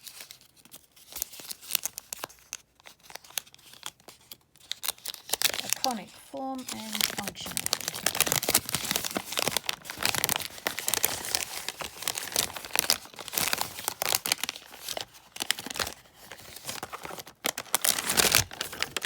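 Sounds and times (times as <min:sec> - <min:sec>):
paper packaging crinkling: 0:00.0 - 0:19.0.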